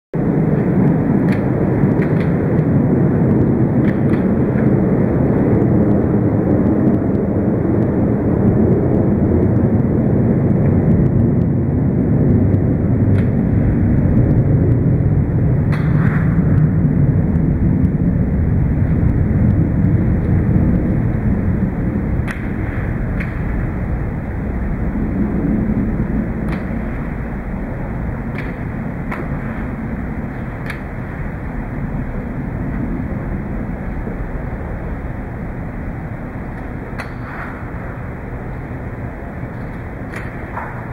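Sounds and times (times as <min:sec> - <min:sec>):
loud low rumble: 0:00.2 - 0:40.9.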